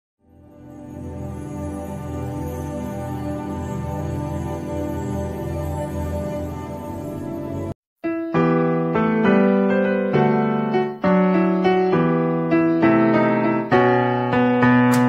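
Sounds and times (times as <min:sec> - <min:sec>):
piano playing: 0:00.3 - 0:15.0.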